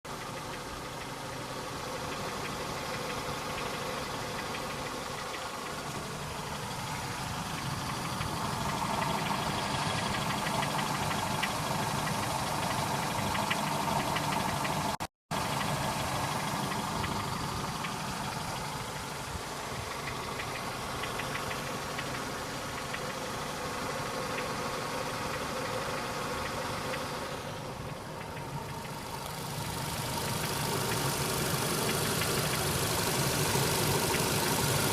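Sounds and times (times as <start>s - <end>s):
engine idling: 0.0s - 34.9s
engine knocking: 0.0s - 34.9s.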